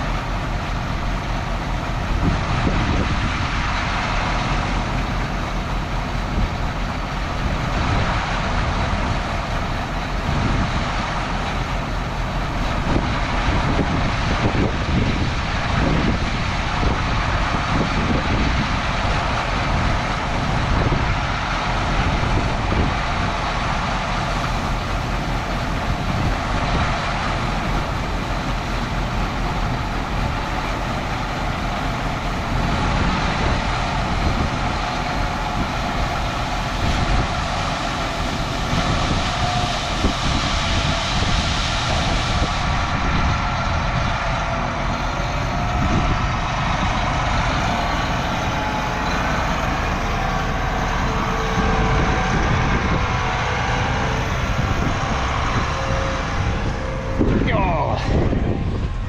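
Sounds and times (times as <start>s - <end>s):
road rumble: 0.0s - 59.0s
truck engine running: 0.0s - 59.0s.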